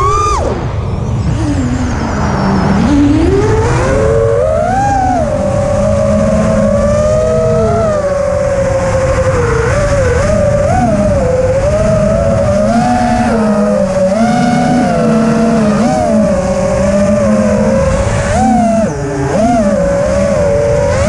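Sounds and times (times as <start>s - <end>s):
steady low rumble: 0.0s - 20.9s
quadcopter motors whining: 0.0s - 21.0s.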